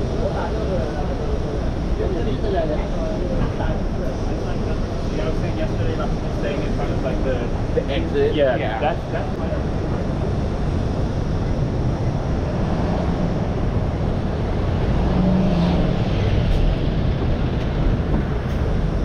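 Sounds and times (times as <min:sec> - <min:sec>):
street traffic rumble: 0:00.0 - 0:19.0
vehicle engine hum: 0:00.0 - 0:19.0.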